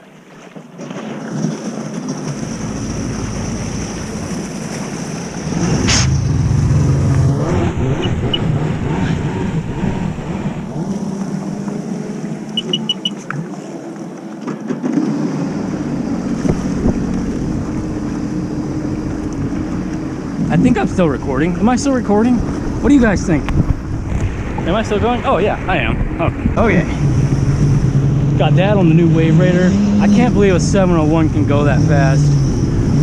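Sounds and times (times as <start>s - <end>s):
jet ski engine running hard: 0.8s - 33.0s.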